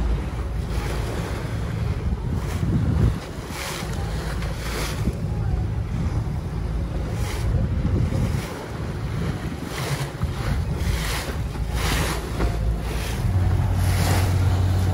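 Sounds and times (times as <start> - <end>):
steady low hum: 0.0 - 14.9
water splashing past boat: 0.0 - 14.9
wind buffeting microphone: 0.0 - 14.9.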